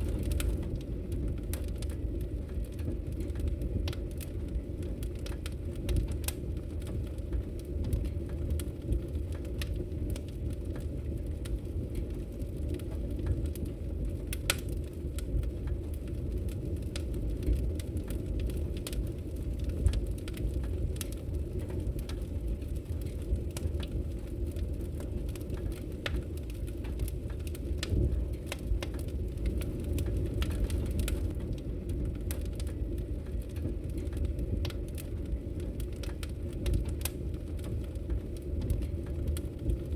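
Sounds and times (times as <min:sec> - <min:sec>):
logs crackling and popping in fire: 0:00.0 - 0:39.9.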